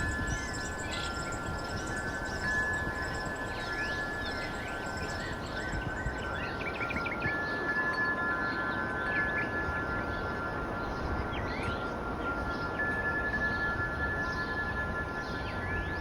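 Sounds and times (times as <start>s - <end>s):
wind chimes ringing: 0.0s - 16.0s.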